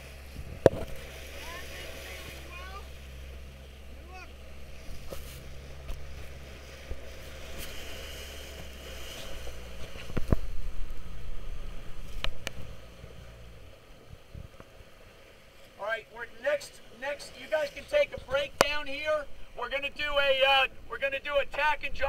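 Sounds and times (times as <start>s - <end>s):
water splashing around boat: 0.0s - 21.8s
boat motor humming: 0.0s - 22.0s
wind: 0.0s - 22.0s.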